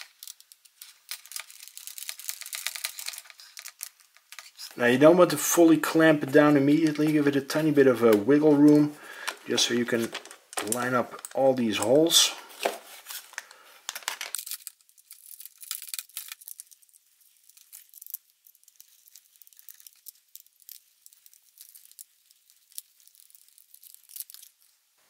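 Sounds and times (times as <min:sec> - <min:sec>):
plastic parts clicking and rustling: 0:00.0 - 0:04.8, 0:05.8 - 0:24.7.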